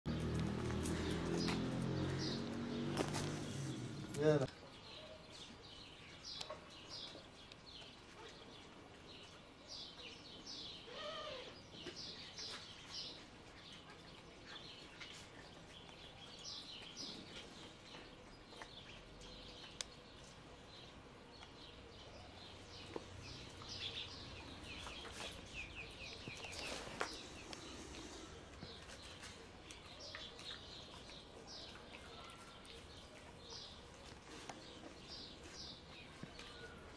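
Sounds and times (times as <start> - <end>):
small birds chirping: 0.1 - 36.9.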